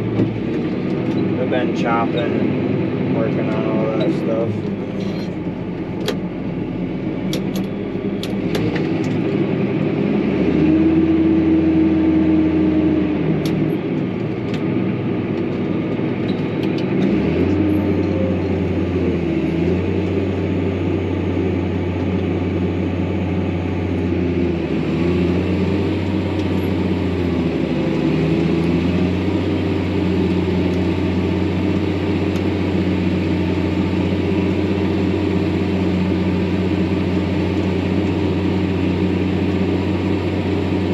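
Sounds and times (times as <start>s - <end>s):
tractor engine drone: 0.0s - 40.9s.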